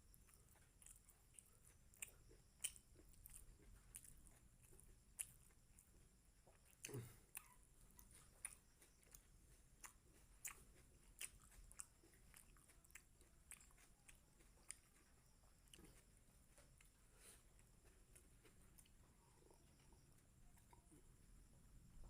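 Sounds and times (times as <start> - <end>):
person chewing food: 0.0 - 21.9.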